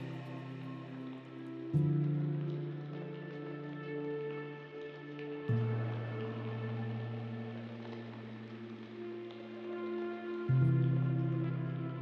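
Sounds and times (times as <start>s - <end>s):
music with soft sustained chords: 0.0s - 12.0s.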